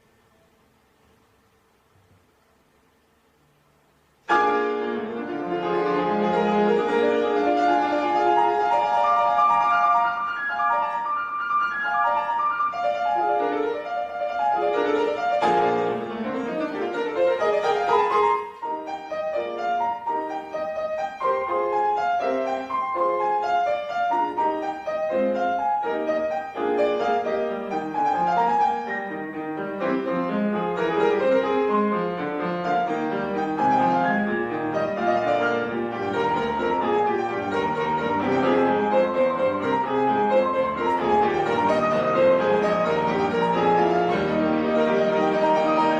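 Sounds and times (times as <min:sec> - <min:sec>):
piano playing run of notes: 0:04.2 - 0:45.9.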